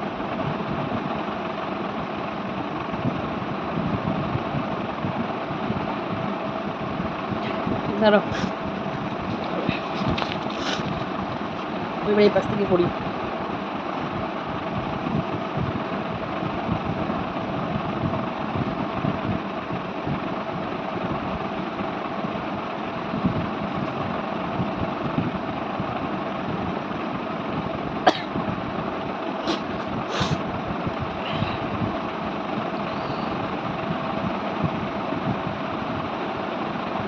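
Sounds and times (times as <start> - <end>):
machine hum with faint tone: 0.0 - 37.0.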